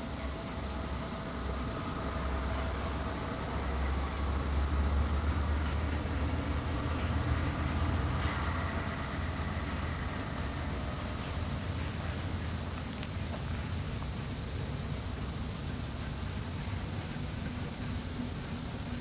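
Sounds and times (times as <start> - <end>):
distant freight train rumble: 0.0 - 19.0
insects buzzing: 0.0 - 19.0.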